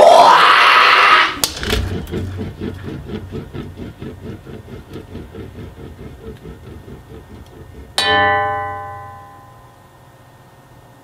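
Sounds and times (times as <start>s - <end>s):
induction hob pulsing buzz: 1.2s - 11.0s.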